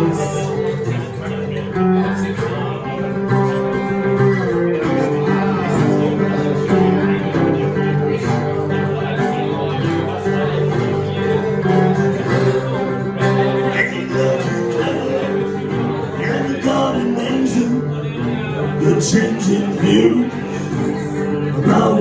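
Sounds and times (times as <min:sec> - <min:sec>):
guitar: 0:00.0 - 0:22.0.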